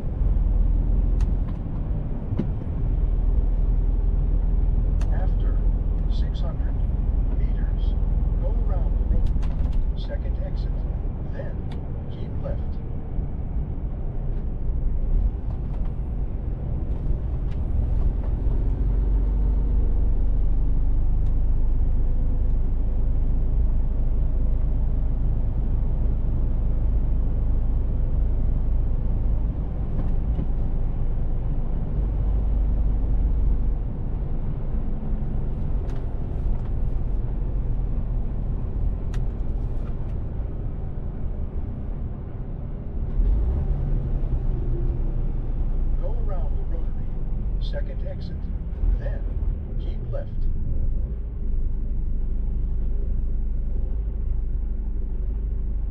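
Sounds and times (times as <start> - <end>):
road noise: 0.0 - 55.9
truck diesel engine driving: 0.0 - 55.9.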